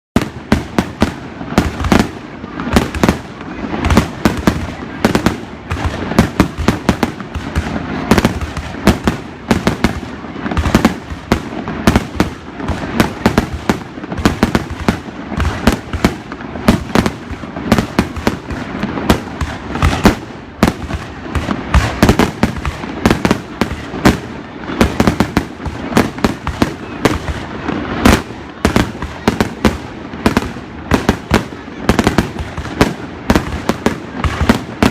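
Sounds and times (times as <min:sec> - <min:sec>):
fireworks banging: 0:00.2 - 0:34.9.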